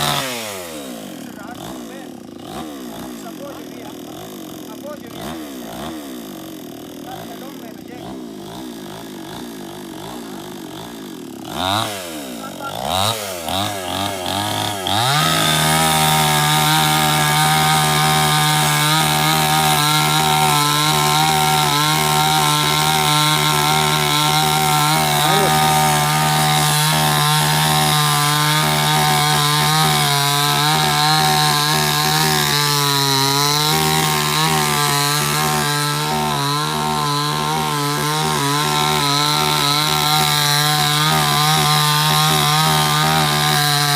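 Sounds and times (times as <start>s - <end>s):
chainsaw cutting into tree: 0.0s - 43.9s.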